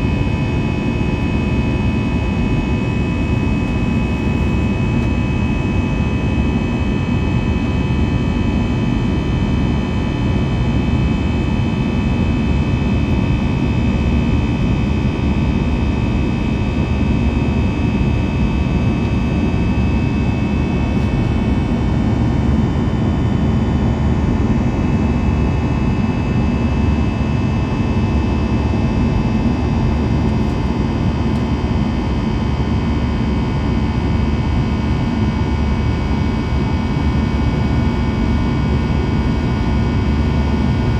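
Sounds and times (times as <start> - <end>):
high engine whine: 0.0 - 40.9
jet engine roar in cabin: 0.0 - 40.9.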